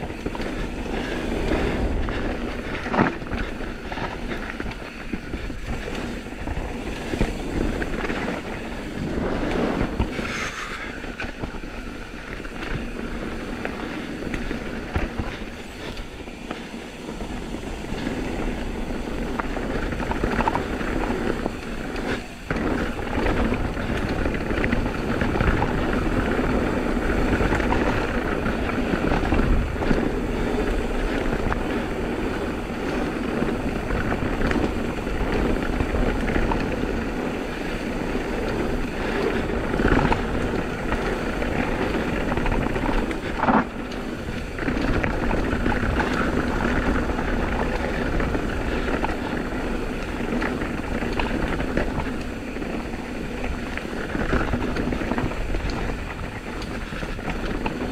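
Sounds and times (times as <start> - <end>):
bike rattling: 0.0 - 57.9
bike tyres rolling over dirt: 0.0 - 57.9
wind rush on microphone: 0.0 - 57.9.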